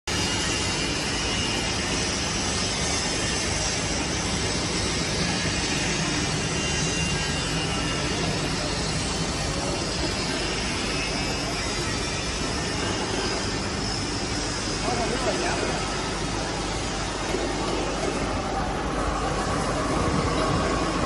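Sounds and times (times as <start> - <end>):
furnace plant rushing noise: 0.2 - 21.0.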